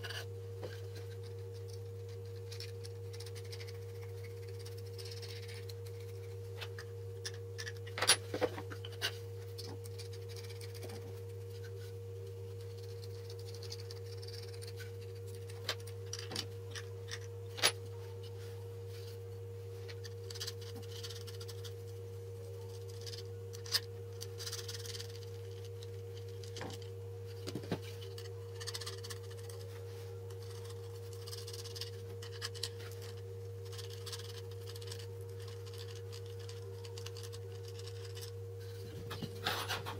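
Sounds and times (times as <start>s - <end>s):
low two-tone hum: 0.0s - 39.9s.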